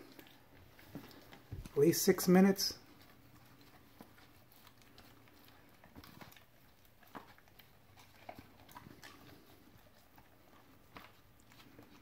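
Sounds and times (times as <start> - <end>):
dog eating from plastic tray: 0.0 - 12.0.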